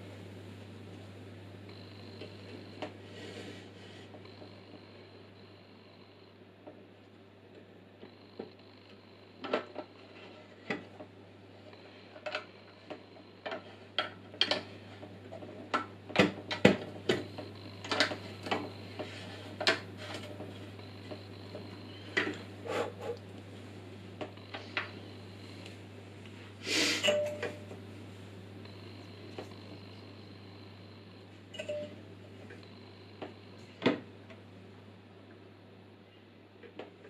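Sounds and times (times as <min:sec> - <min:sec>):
drill press humming: 0:00.0 - 0:35.5.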